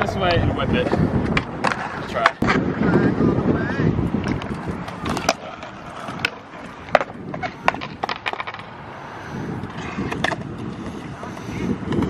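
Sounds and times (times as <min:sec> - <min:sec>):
tyres rolling on concrete: 0:00.0 - 0:12.0.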